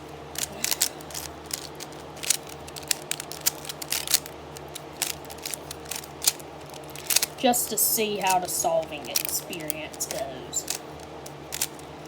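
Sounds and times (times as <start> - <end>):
puzzle cube layers clicking: 0.4 - 7.4, 8.2 - 11.8.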